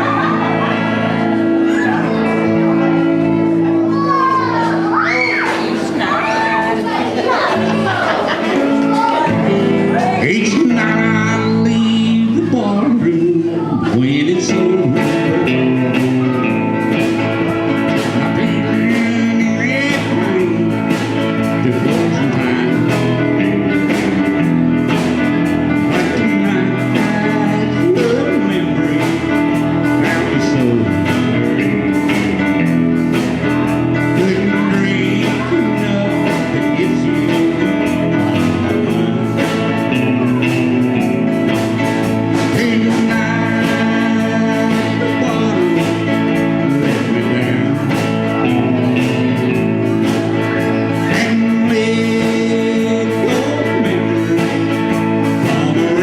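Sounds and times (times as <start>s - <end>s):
blues-country band playing: 0.0s - 56.0s
person singing: 0.0s - 56.0s.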